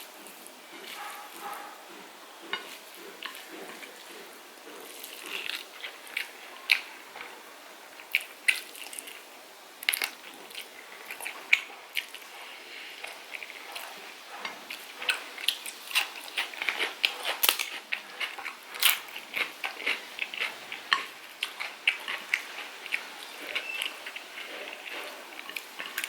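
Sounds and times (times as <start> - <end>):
chewing and mouth sounds: 0.0 - 7.4, 8.0 - 26.0.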